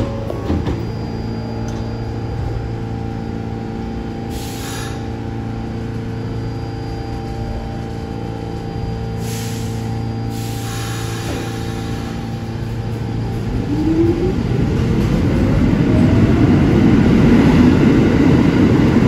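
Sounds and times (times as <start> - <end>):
train equipment humming with tones: 0.0 - 19.0.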